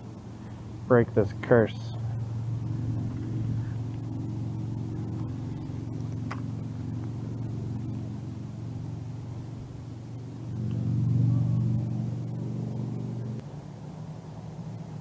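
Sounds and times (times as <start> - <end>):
held pitched tones: 0.0 - 13.4
low engine drone: 0.0 - 15.0.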